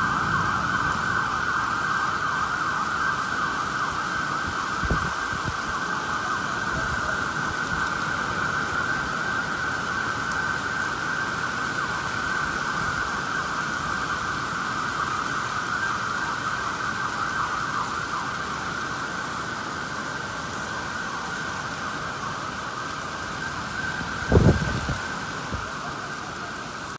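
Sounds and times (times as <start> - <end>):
siren wailing: 0.0 - 26.9
steady rain: 0.0 - 26.9.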